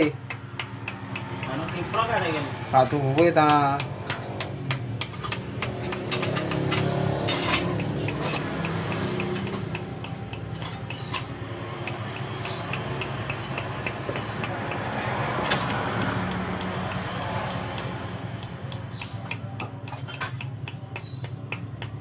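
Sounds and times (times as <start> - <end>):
small hammer tapping on steel: 0.0 - 2.2, 2.8 - 22.0.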